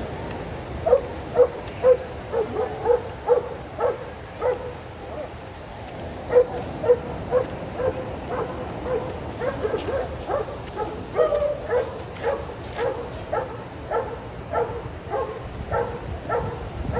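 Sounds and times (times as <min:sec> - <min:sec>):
outdoor background noise: 0:00.0 - 0:16.9
dog barking: 0:00.8 - 0:04.8, 0:06.3 - 0:16.7.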